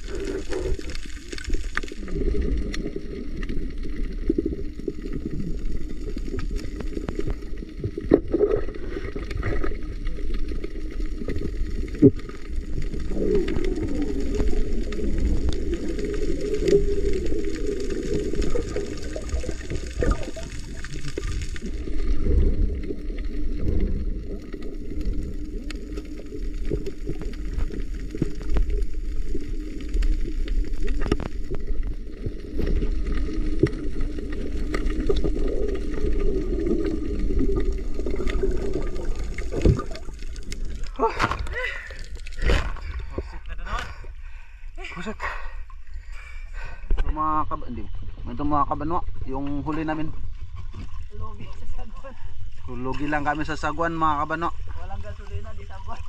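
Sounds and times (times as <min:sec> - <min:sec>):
underwater moving water rumble: 0:00.0 - 0:56.0
water gurgles: 0:00.0 - 0:56.0.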